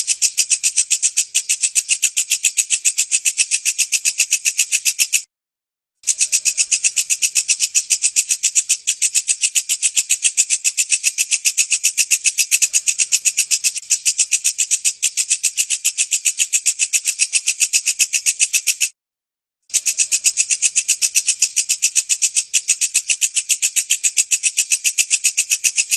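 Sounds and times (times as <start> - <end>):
katydid chirping: 0.0 - 5.3, 6.0 - 19.0, 19.7 - 25.9.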